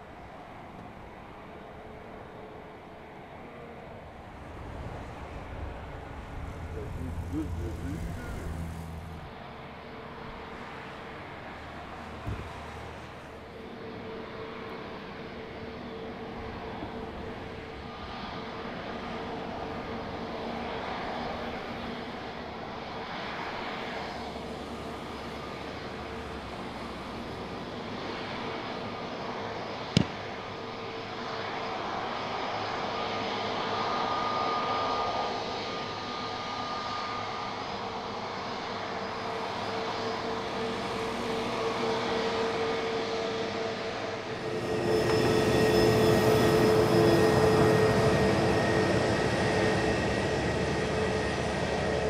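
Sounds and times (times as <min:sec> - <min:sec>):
aircraft engines whining: 0:00.0 - 0:52.0.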